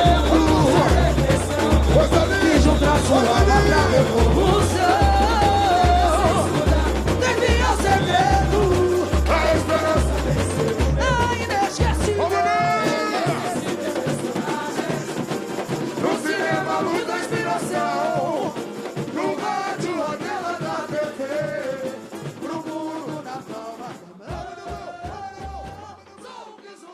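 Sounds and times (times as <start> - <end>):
chorus of voices singing: 0.0 - 26.9
samba drums: 0.0 - 26.9.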